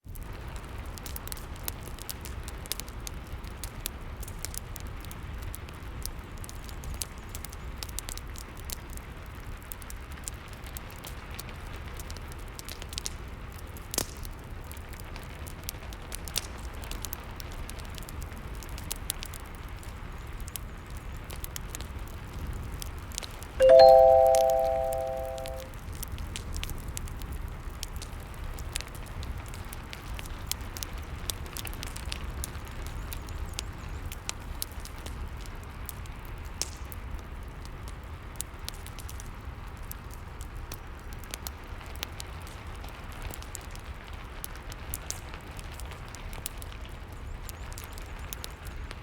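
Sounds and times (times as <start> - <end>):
low rumble of rain: 0.0 - 49.0
wood fire crackling and popping: 0.2 - 23.4, 27.8 - 49.0.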